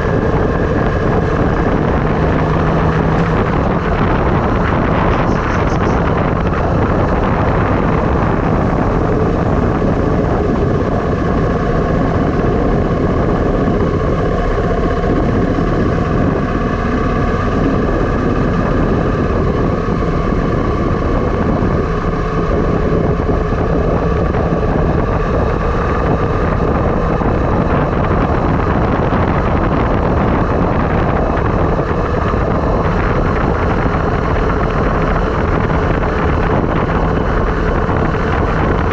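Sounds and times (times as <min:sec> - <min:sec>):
faint tones drifting in pitch: 0:00.0 - 0:38.9
road noise: 0:00.0 - 0:38.9
wind on microphone: 0:00.0 - 0:38.9.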